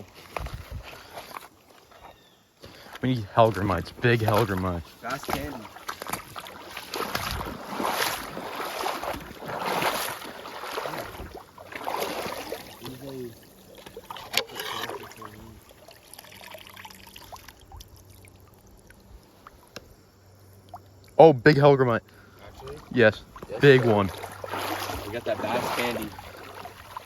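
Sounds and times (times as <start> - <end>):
creek water splashing: 0.0 - 27.0.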